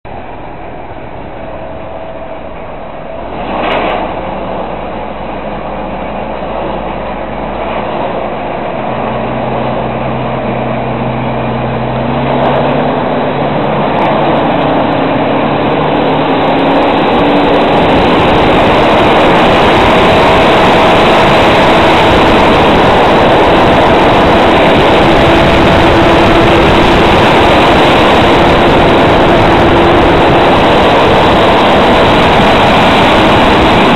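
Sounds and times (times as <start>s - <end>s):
tractor and harvester running: 0.0s - 33.9s
brief loud machinery noise: 0.1s - 33.9s.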